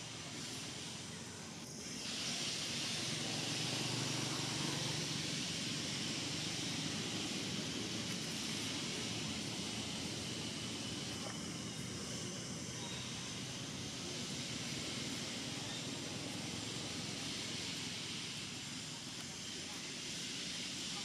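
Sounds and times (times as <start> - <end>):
outdoor hiss: 0.0 - 21.0.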